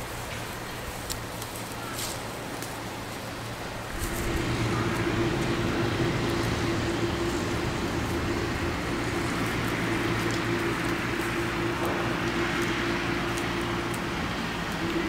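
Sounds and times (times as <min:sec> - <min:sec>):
background noise haze: 0:00.0 - 0:15.0
steady engine hum: 0:00.0 - 0:15.0.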